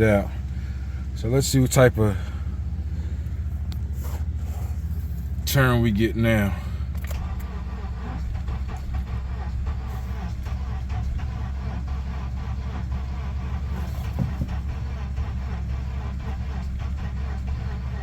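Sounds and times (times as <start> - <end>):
starter cranking car engine: 0.0 - 18.0.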